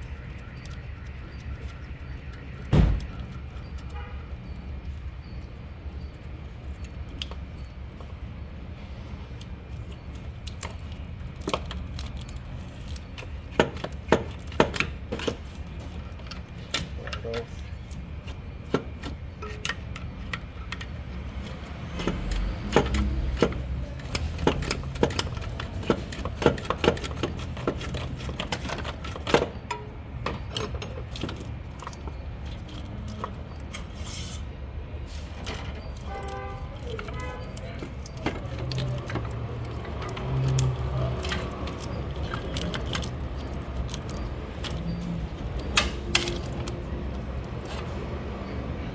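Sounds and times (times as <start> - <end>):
hand tools clicking and clanking: 9.3 - 48.9.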